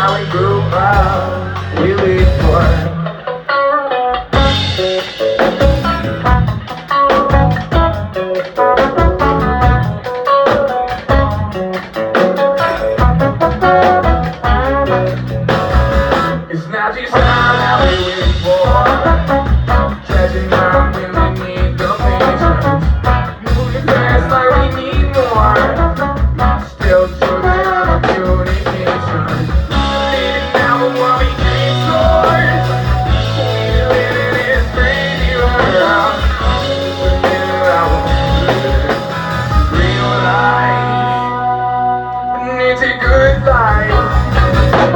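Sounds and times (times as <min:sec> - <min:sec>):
person singing: 0:00.0 - 0:11.3, 0:16.4 - 0:44.9
bass guitar: 0:00.0 - 0:44.9
drums: 0:00.0 - 0:44.9
electric guitar: 0:00.0 - 0:44.9.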